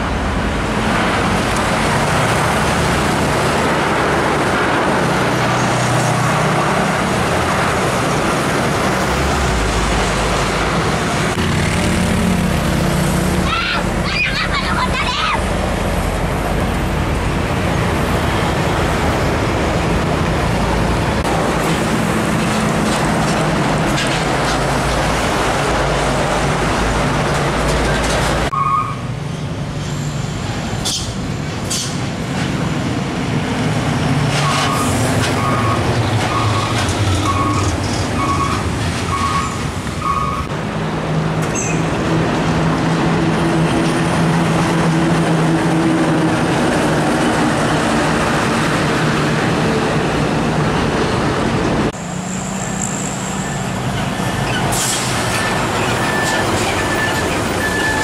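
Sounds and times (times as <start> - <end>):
diesel trucks driving past: 0.0 - 58.0
road noise: 0.0 - 58.0.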